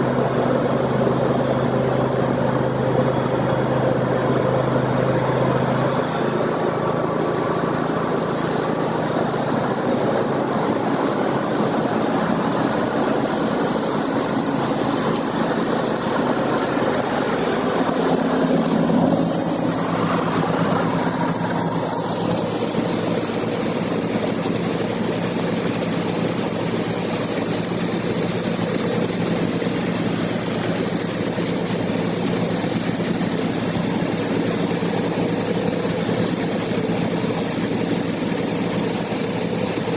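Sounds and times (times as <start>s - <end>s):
sawmill engine running: 0.0s - 39.9s
thin high whine: 0.0s - 39.9s.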